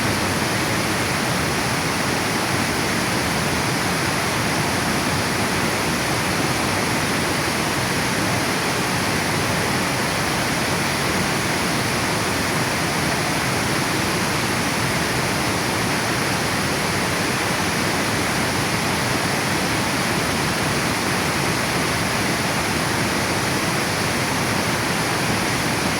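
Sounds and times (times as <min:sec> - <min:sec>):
water pouring over dam: 0:00.0 - 0:25.9.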